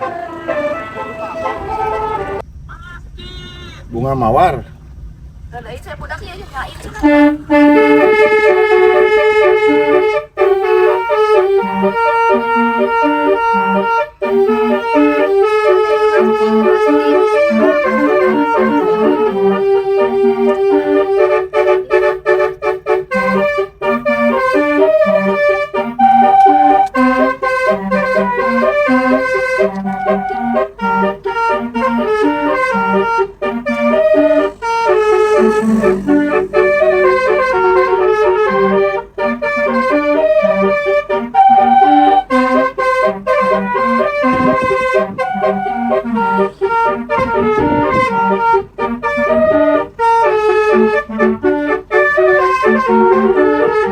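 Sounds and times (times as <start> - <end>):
bus musical horn melody: 0.0 - 2.5, 3.2 - 3.9, 6.7 - 53.9
bouncing bass line: 7.0 - 53.9.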